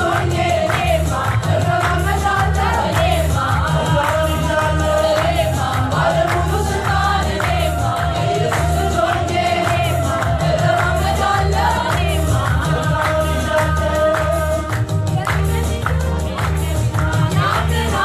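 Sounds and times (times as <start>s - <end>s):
choir singing gospel: 0.0s - 18.0s.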